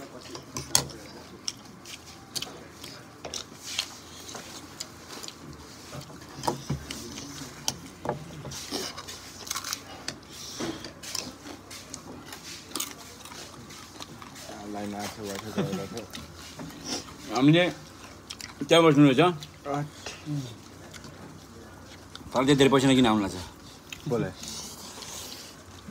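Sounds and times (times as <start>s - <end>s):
chewing: 0.0s - 25.9s.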